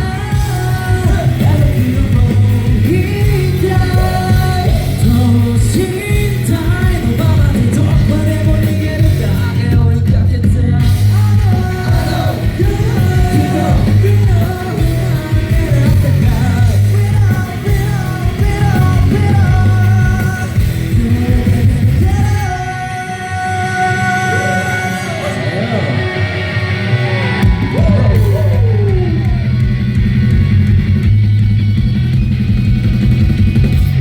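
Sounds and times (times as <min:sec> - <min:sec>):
vocal group singing: 0:00.0 - 0:29.5
band track with heavy bass: 0:00.0 - 0:34.0.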